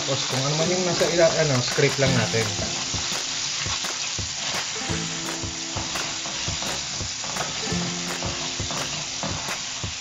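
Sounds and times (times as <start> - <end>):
tomatoes sizzling in hot oil: 0.0 - 10.0.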